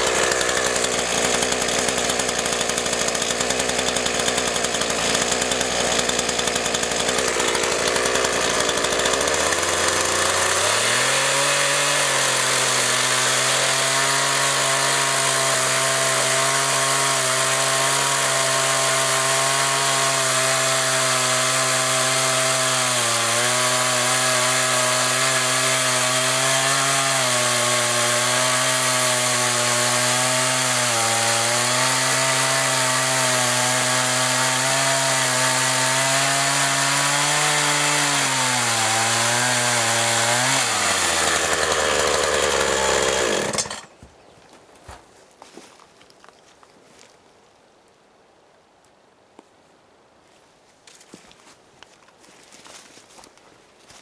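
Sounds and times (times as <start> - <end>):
chainsaw cutting log: 0.0 - 44.1.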